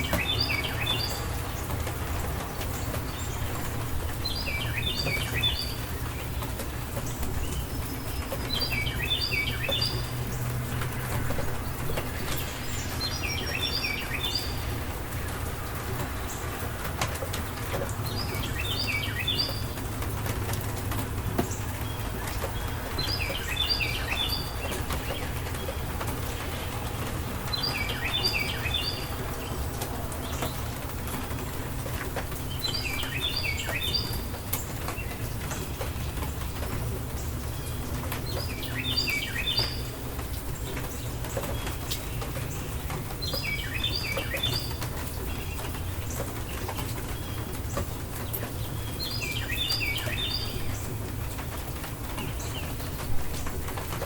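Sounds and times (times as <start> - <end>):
songbird chirping: 0.0 - 54.0
steady rain: 0.0 - 54.0.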